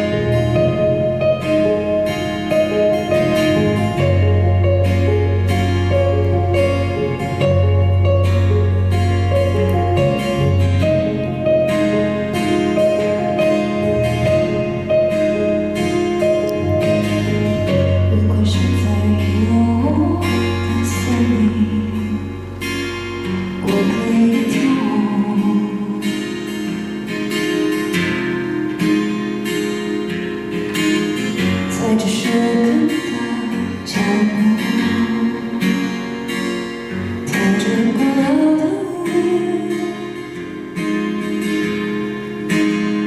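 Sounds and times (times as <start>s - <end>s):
acoustic guitar playing: 0.0s - 43.0s.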